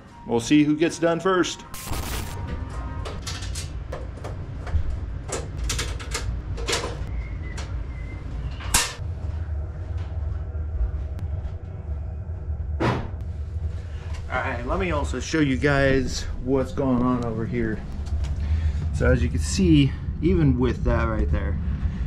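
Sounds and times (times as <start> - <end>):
low steady hum: 1.6 - 22.0.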